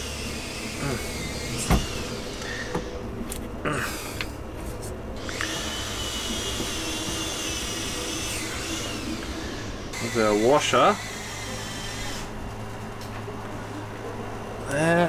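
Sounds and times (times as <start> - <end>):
steady whirring hum: 0.0 - 15.0.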